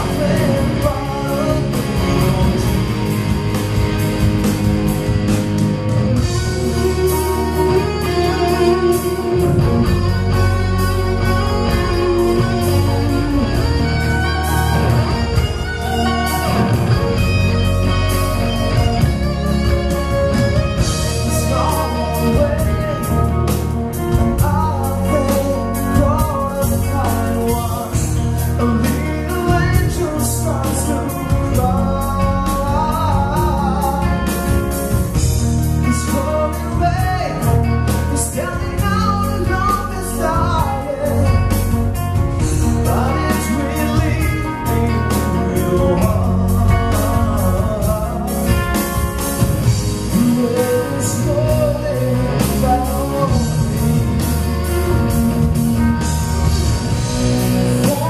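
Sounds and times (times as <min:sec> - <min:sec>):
man singing: 0:00.0 - 0:03.6, 0:06.2 - 0:58.0
live rock band playing: 0:00.0 - 0:58.0.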